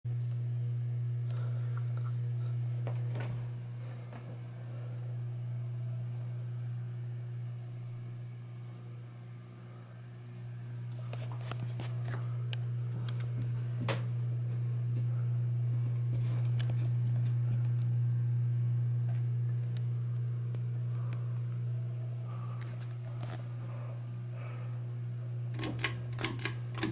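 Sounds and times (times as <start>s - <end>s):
ceiling fan humming: 0.1s - 26.9s.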